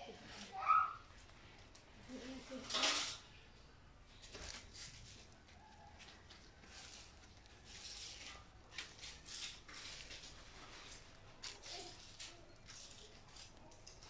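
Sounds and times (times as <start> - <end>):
faint rustling: 0.0 - 14.0.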